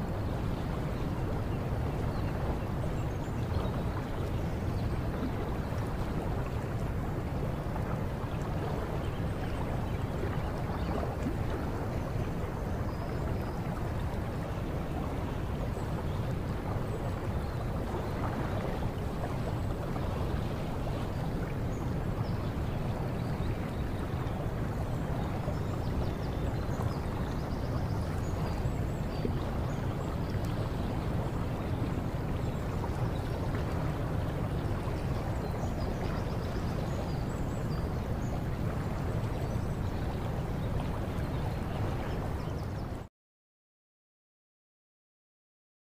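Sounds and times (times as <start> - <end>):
flowing water: 0.0 - 43.1.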